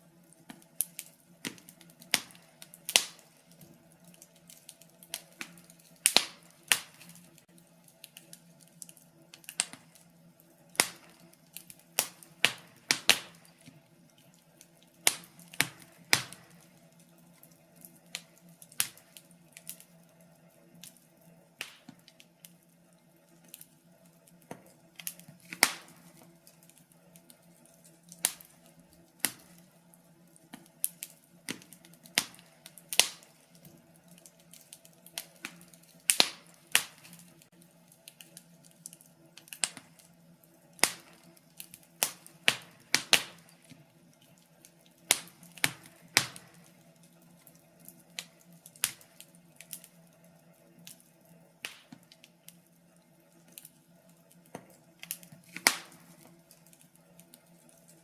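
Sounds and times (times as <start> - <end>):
fireplace fire crackling and popping: 0.0 - 58.0.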